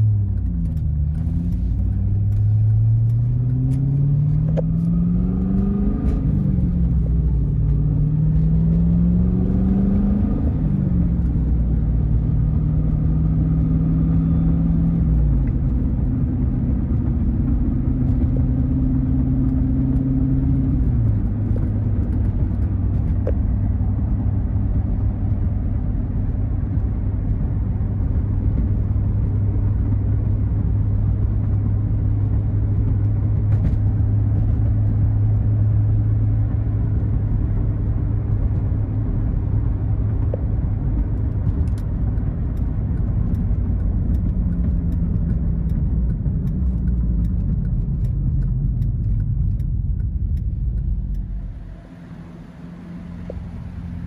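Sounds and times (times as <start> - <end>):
car engine drone: 0.0 - 54.0
tyre and road noise: 0.0 - 54.0.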